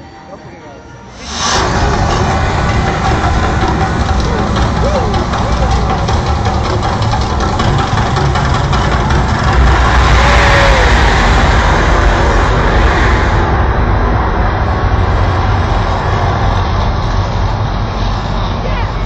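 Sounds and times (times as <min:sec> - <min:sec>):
gas flames rushing: 0:01.1 - 0:18.6
deep rumble: 0:01.1 - 0:19.0.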